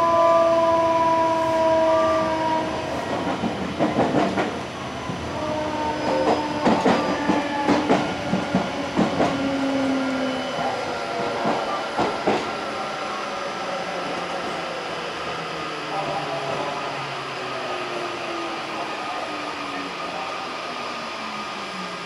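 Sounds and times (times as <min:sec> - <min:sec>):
train electric motor whine: 0:00.0 - 0:22.0
train running noise: 0:00.0 - 0:22.0.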